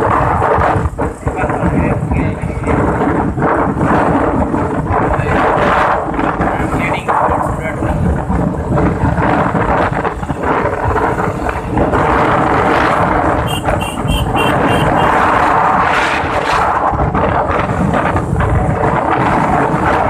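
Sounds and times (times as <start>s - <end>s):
road and engine noise: 0.0s - 20.0s
wind buffeting microphone: 0.0s - 20.0s.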